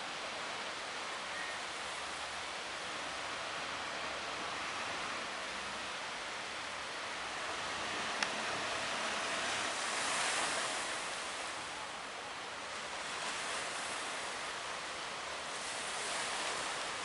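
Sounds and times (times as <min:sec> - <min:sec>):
sea waves and wind rushing: 0:00.0 - 0:17.0.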